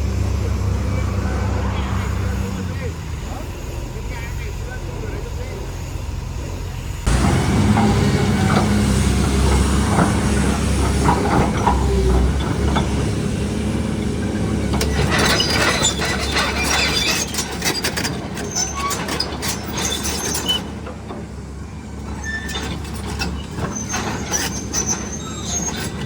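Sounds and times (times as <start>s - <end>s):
diesel machinery rumbling: 0.0s - 26.0s.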